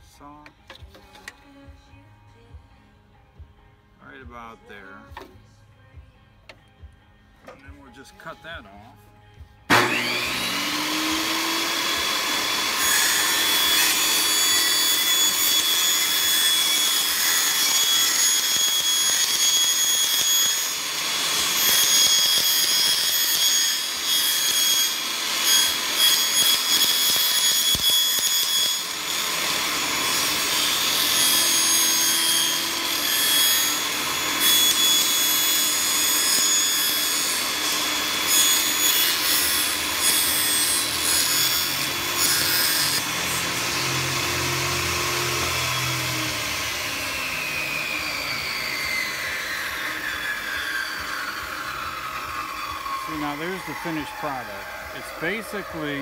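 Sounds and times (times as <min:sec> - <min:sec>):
saw blade cutting plastic: 0:09.7 - 0:56.0
table saw whine: 0:09.7 - 0:56.0.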